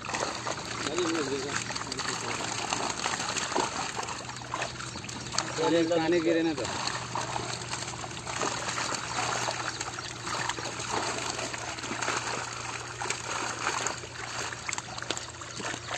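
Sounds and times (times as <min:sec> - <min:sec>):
fish thrashing and splashing: 0:00.0 - 0:15.9.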